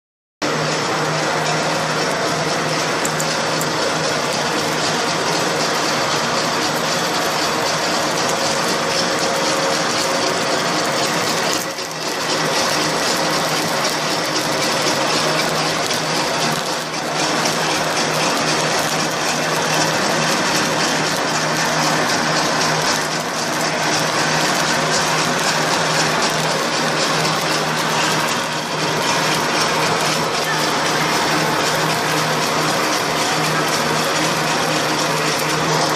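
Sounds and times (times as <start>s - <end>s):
low machine hum: 0.4s - 35.9s
machine clatter and rattle: 0.4s - 35.9s.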